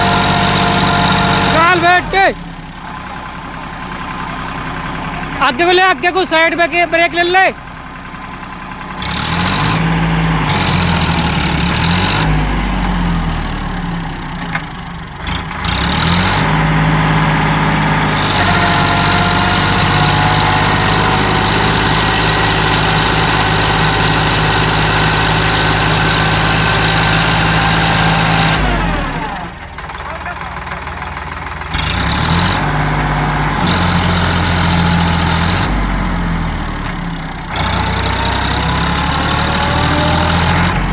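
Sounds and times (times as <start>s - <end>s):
tractor diesel engine working hard: 0.0s - 40.9s.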